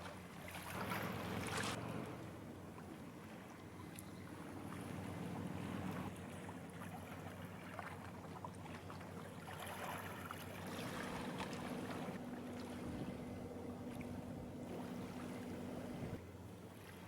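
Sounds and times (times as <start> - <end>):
water sloshing: 0.0 - 17.0
boat engine humming: 0.1 - 17.0.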